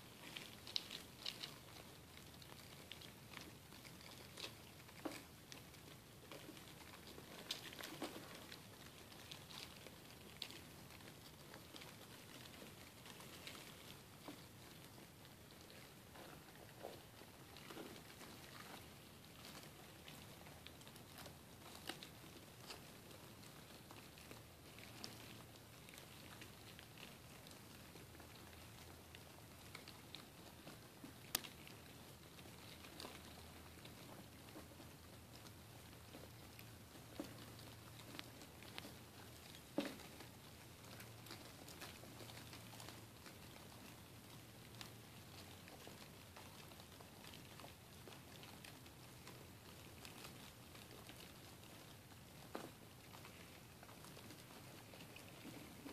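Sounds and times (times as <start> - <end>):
faint clicks and scratching: 0.0 - 55.9
insects crawling and rustling: 0.0 - 55.9
steady low hiss: 0.0 - 55.9.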